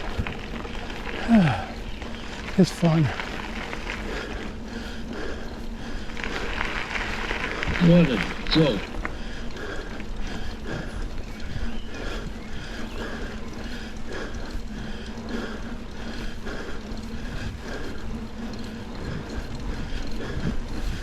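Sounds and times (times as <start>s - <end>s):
bike tyres rolling on dirt: 0.0s - 21.0s.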